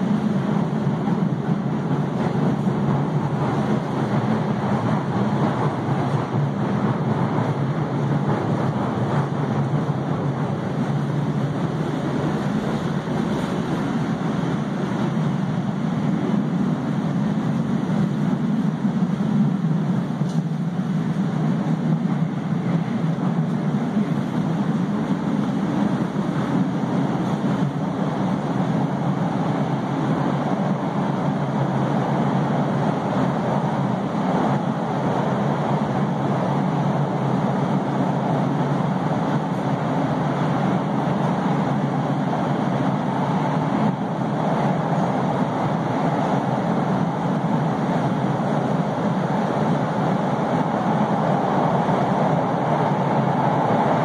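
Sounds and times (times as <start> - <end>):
subway car running noise: 0.0 - 54.0.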